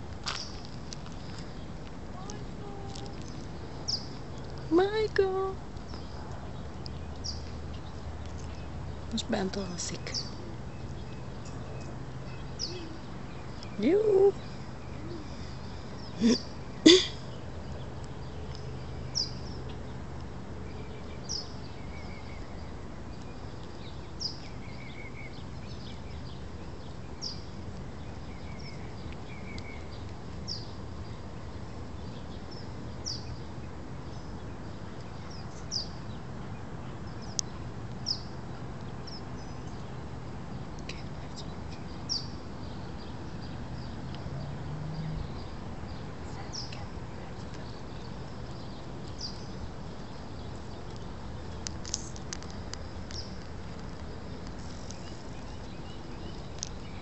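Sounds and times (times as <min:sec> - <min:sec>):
steady low hum: 0:00.0 - 0:57.0
bird chirping: 0:02.2 - 0:20.0, 0:20.6 - 0:57.0.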